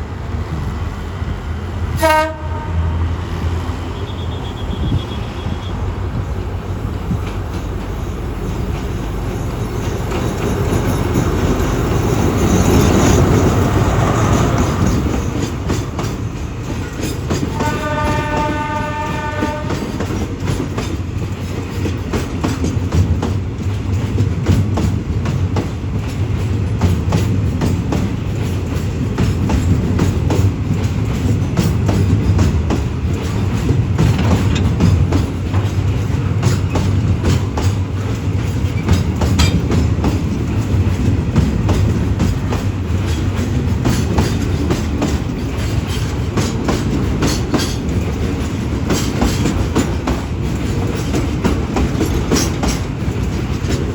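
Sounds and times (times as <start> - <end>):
train rumble: 0.0 - 53.9
wheels clacking over rail joints: 5.8 - 53.9.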